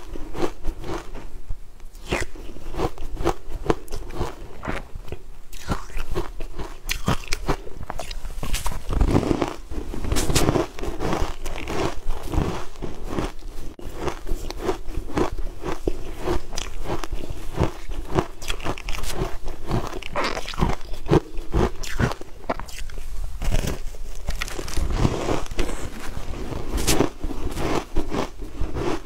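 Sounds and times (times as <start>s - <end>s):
crunchy chewing: 0.0s - 1.3s, 1.9s - 29.0s.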